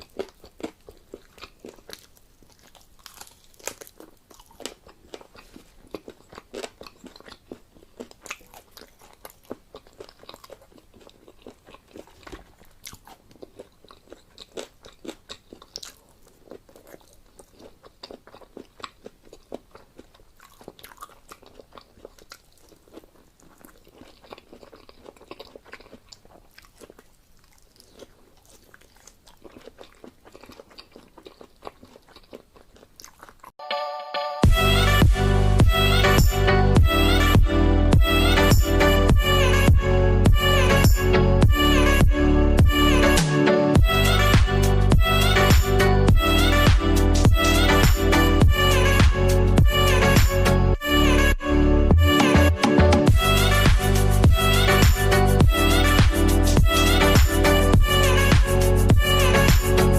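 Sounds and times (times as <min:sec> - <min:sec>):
person chewing food: 0:00.0 - 0:33.6, 0:34.5 - 0:50.9.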